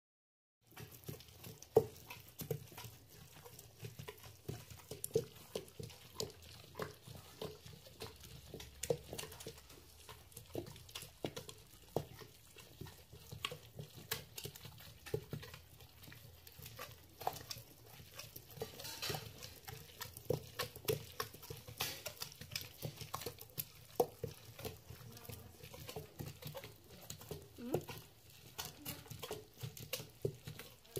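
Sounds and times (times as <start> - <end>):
stone grinder knocking and scraping: 0.7 - 30.9.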